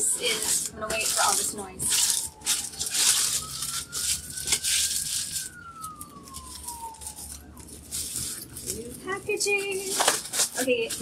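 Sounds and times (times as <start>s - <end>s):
plastic wrap crinkling and tearing: 0.0s - 11.0s
siren wailing: 0.0s - 11.0s.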